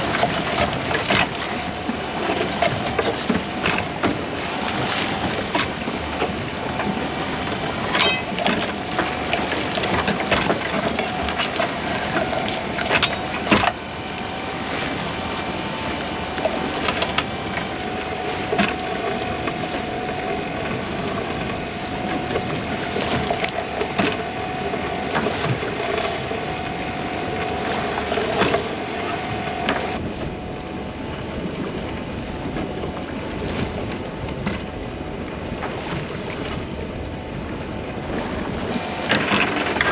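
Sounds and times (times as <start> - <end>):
boat running hiss: 0.0 - 39.9.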